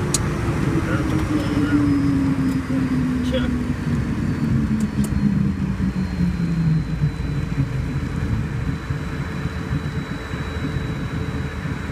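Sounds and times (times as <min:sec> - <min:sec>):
jet engines rushing: 0:00.0 - 0:11.9
low falling tone: 0:00.0 - 0:11.9
thin high engine whine: 0:00.0 - 0:11.9.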